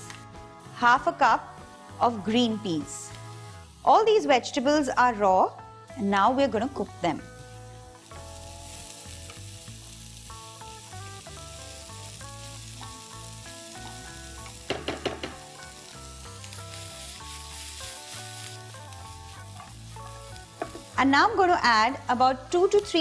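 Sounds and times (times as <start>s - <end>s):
soft background music: 0.0s - 23.0s
vegetables sizzling in oil: 0.0s - 23.0s.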